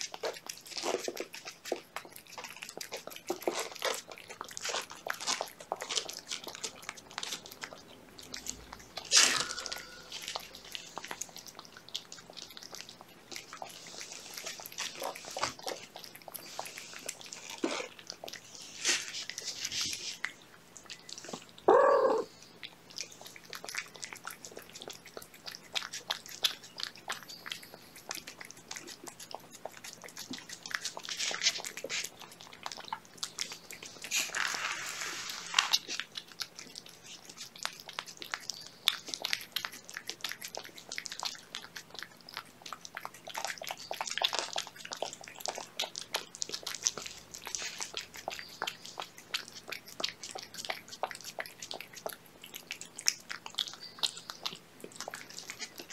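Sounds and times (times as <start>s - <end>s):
cats chewing wet food: 0.0s - 55.9s.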